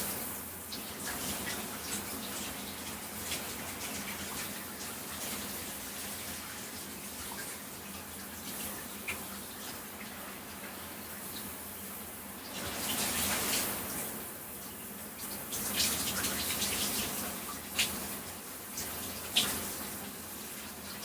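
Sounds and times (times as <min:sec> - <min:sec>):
small splashes and drips: 0:00.0 - 0:21.0.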